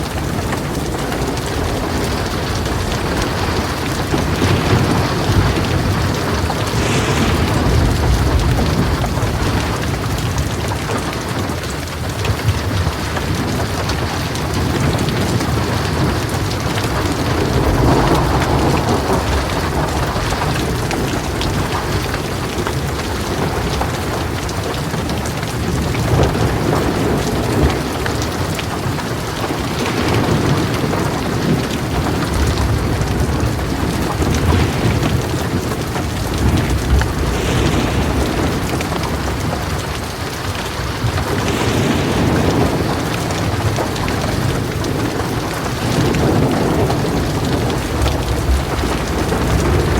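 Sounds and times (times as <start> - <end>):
heavy rain pouring: 0.0 - 49.9
thunder rumbling and cracking: 0.0 - 49.9.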